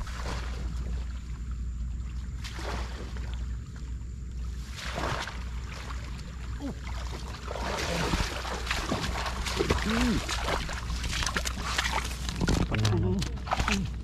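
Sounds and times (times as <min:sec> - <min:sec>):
steady low hum: 0:00.0 - 0:14.0
water splashing and sloshing: 0:00.0 - 0:14.0.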